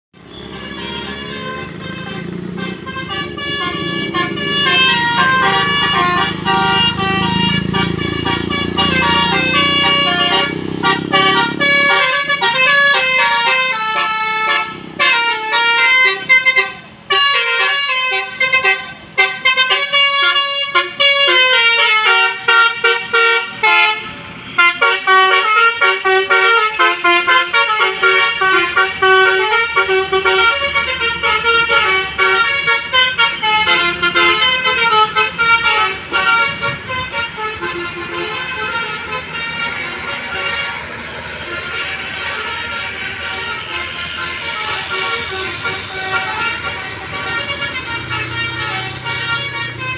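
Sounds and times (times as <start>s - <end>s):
musical bus horn melody: 0.2s - 49.9s.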